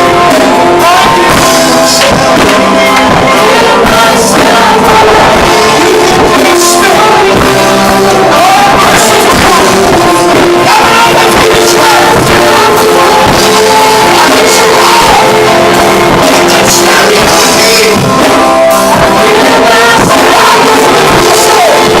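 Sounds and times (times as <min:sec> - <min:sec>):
worship band with singing: 0:00.0 - 0:22.0.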